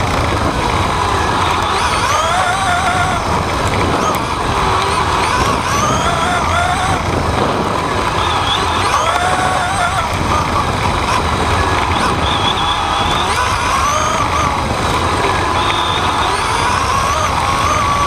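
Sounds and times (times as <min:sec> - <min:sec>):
toy car motor whining: 0:00.0 - 0:18.0.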